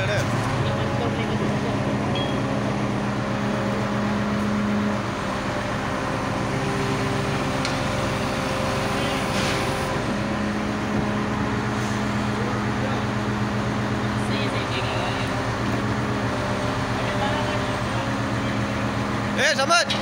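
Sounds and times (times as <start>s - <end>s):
diesel engine low hum: 0.0s - 20.0s.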